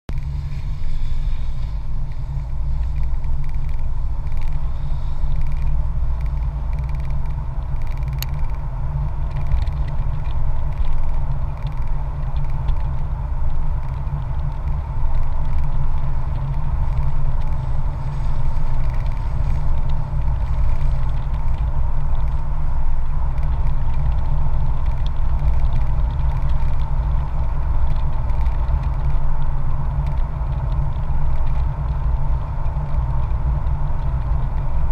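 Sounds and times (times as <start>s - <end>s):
road noise: 0.0s - 34.9s
vehicle engine: 0.1s - 34.9s
wind rumble on microphone: 0.1s - 34.9s.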